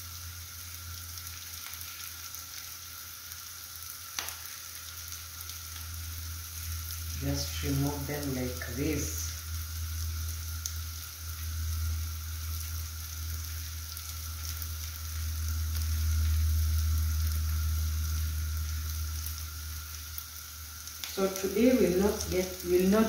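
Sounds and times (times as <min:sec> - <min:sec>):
steady low hum: 0:00.0 - 0:23.0
vegetables sizzling in oil: 0:00.0 - 0:23.0.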